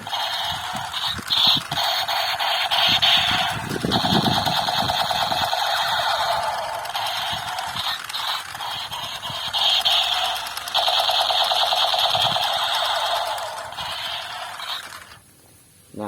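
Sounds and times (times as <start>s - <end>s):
toy gun electronic machine-gun sound: 0.0s - 15.2s.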